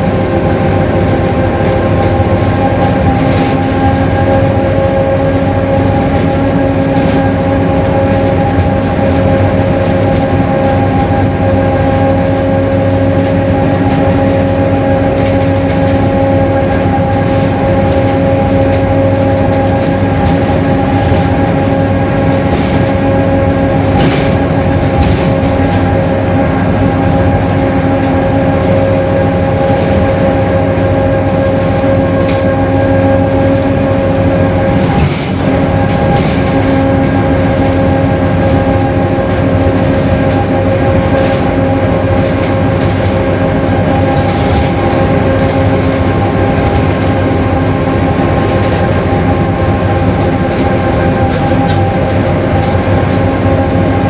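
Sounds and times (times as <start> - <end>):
bus drivetrain rumble: 0.0 - 54.0.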